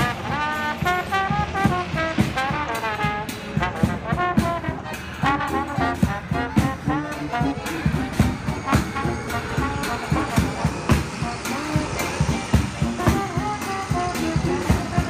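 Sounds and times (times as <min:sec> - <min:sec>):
steady beat: 0:00.0 - 0:15.0
trombone and trumpet melody: 0:00.0 - 0:15.0.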